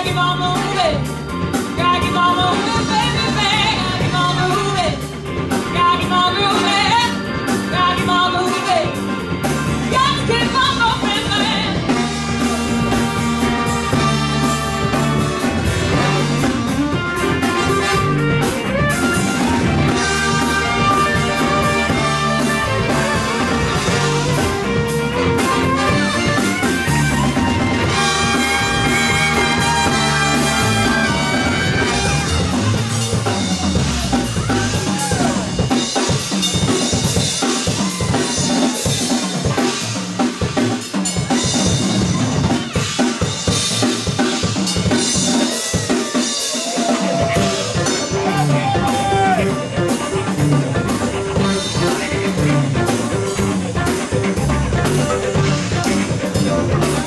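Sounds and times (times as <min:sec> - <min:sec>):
horn section: 0:00.0 - 0:36.1, 0:36.7 - 0:57.0
bass guitar: 0:00.0 - 0:57.0
drum kit: 0:00.0 - 0:57.0
electric guitar: 0:00.0 - 0:57.0.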